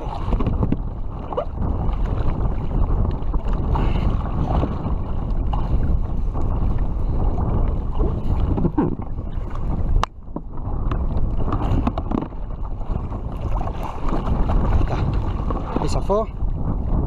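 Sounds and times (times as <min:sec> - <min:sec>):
water moving around a kayak: 0:00.0 - 0:17.0
wind buffeting microphone: 0:00.0 - 0:17.0.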